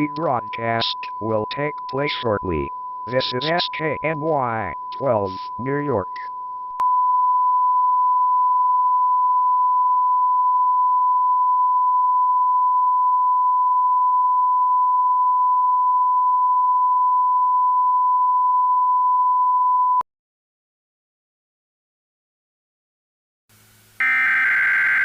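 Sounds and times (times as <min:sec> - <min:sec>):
pure steady test tone: 0:00.0 - 0:20.0, 0:24.0 - 0:25.0.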